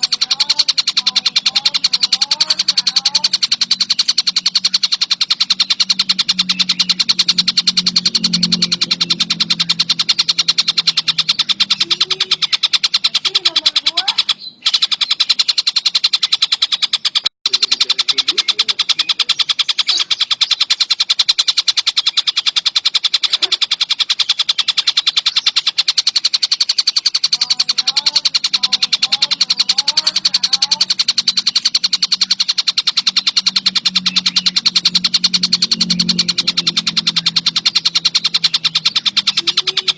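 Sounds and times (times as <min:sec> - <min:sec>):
kingfisher high-pitched trill: 0:00.0 - 0:39.9.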